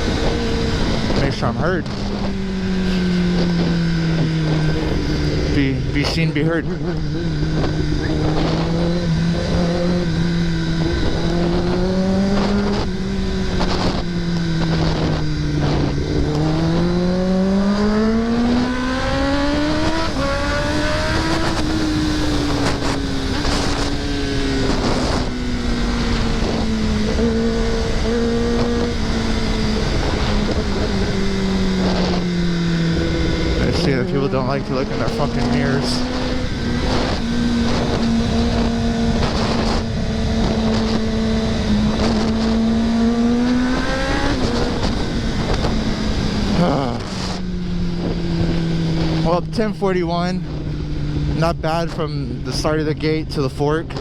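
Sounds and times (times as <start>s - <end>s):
motorcycle engine accelerating: 0.0s - 54.0s
wind rush: 0.0s - 54.0s.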